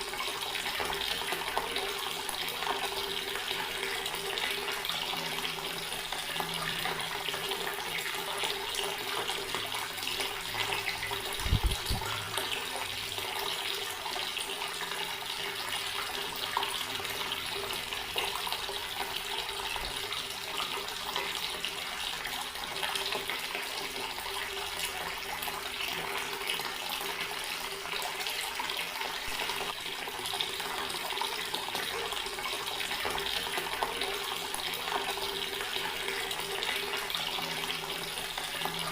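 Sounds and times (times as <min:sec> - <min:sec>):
water running from a tap: 0:00.0 - 0:38.9.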